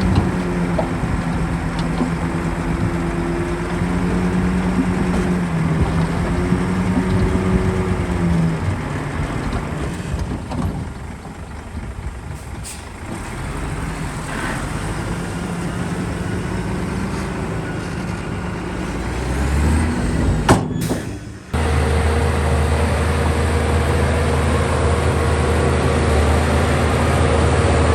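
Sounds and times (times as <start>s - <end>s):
heavy diesel engine running: 0.0s - 27.9s.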